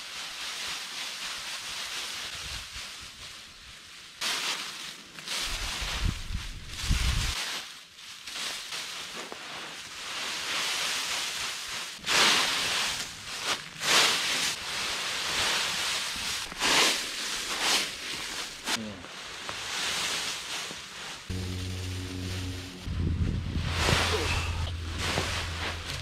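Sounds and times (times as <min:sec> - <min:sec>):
dry leaves rustling and crunching: 0:00.0 - 0:26.0.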